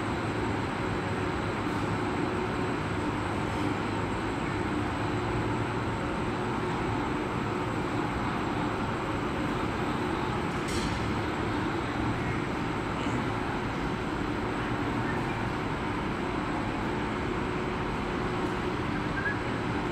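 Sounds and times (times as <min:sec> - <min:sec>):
factory machine drone: 0:00.0 - 0:19.9.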